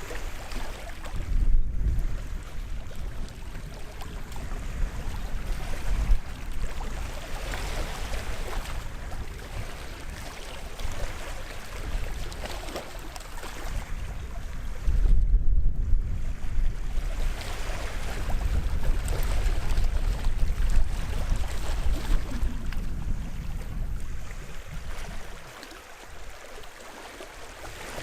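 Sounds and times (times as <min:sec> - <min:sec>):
small waves washing onto beach: 0:00.0 - 0:28.0
wind rumble on microphone: 0:00.0 - 0:28.0.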